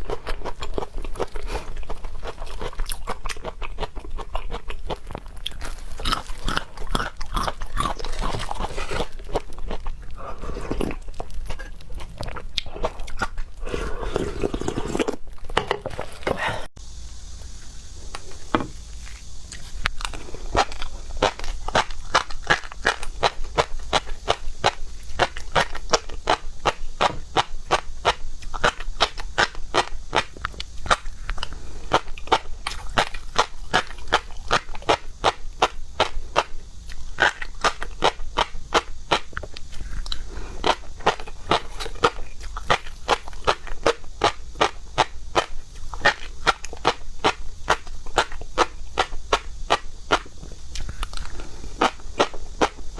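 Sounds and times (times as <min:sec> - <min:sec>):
chewing and crunching seafood: 0:00.0 - 0:16.7, 0:18.1 - 0:52.9.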